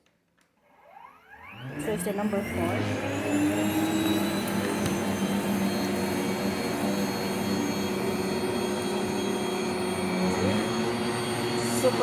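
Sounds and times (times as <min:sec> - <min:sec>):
vacuum cleaner motor whine: 0:00.6 - 0:12.0.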